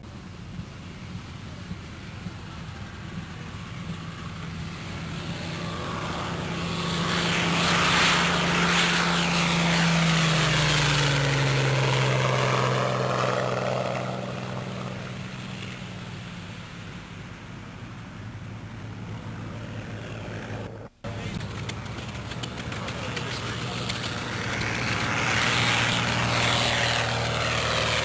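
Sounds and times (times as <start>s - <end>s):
propeller plane engine at full power: 0.0s - 28.0s.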